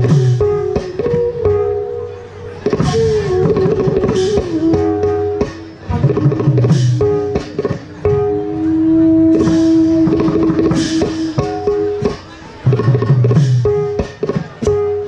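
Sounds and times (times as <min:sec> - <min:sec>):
barrel drum strokes: 0:00.0 - 0:15.0.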